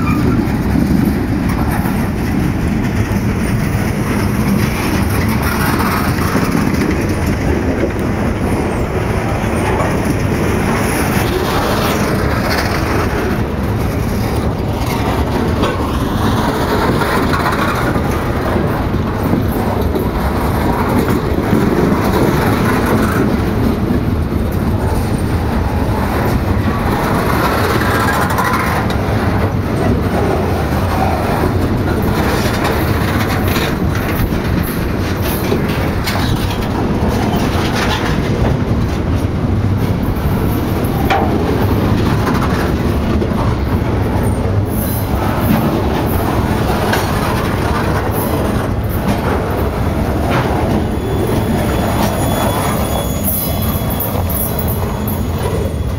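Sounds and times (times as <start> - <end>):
train wheels rumbling on rail: 0.0 - 55.9
wheels clacking: 0.0 - 55.9.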